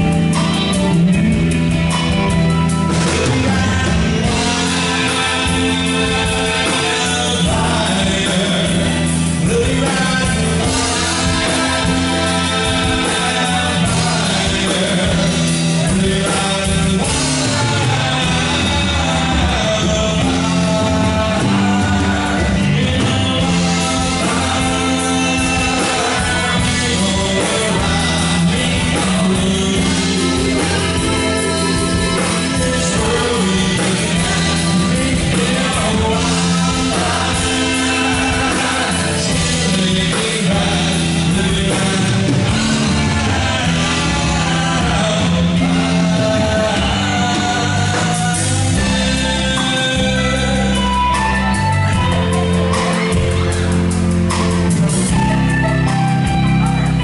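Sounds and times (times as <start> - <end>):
bass: 0.0 - 57.0
drums: 0.0 - 57.0
electric guitars: 0.0 - 57.0
person singing: 0.0 - 57.0.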